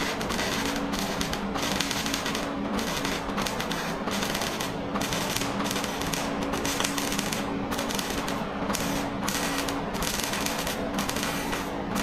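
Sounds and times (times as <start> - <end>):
welder crackling: 0.0 - 12.0.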